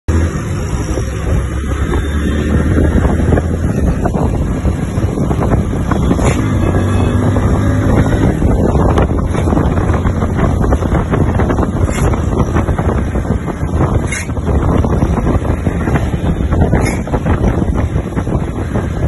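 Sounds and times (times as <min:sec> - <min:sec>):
wind buffeting microphone: 0:00.1 - 0:19.0
motorcycle engine running: 0:00.3 - 0:19.0.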